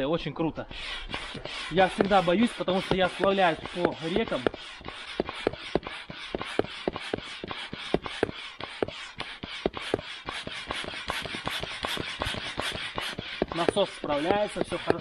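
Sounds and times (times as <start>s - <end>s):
rush of air: 0.5s - 13.4s
hand air pump clicking: 0.8s - 15.0s.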